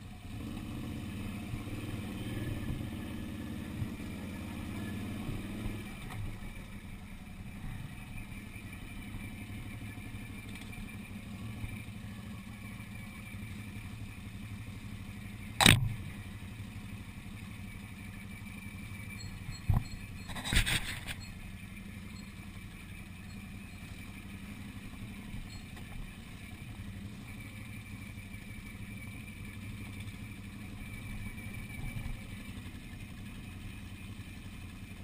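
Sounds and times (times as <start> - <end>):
atv engine running: 0.0 - 35.0.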